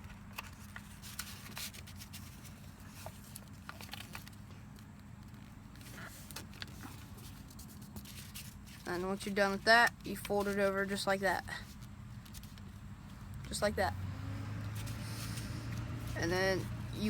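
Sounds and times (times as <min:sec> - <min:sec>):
paper crinkling and crackling: 0:00.0 - 0:13.6, 0:14.5 - 0:17.0
paper being folded and creased: 0:00.0 - 0:13.7, 0:14.4 - 0:17.0
low steady hum: 0:00.0 - 0:17.0.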